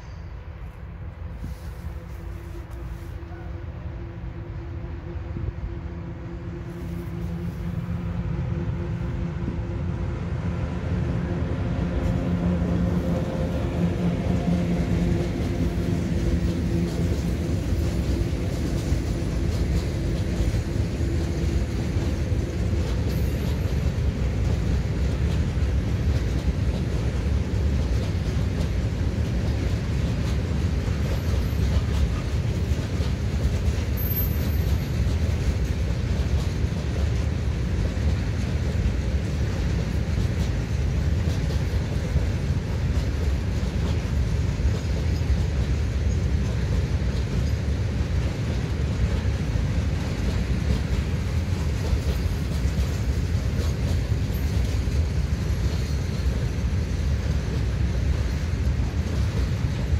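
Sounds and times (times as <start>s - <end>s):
locomotive humming: 0.0s - 59.9s
train wheels rumbling on rails: 0.0s - 59.9s.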